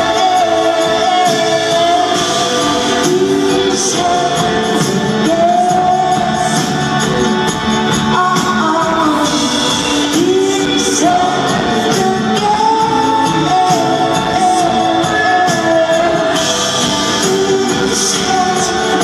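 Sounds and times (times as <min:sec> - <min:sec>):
keyboards: 0:00.0 - 0:19.0
steady drum beat: 0:00.0 - 0:19.0.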